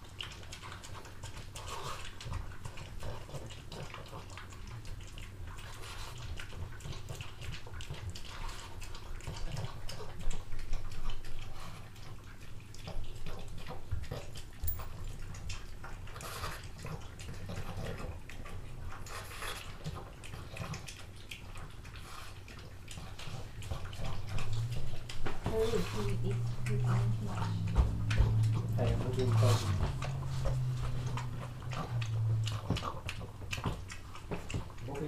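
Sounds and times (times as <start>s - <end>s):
dog chewing wetly: 0.0s - 35.0s.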